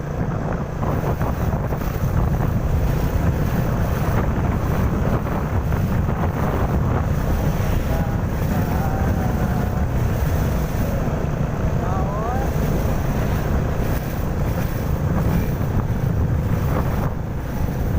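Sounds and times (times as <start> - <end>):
road traffic rumble: 0.0 - 17.9
wind buffeting microphone: 0.0 - 17.9.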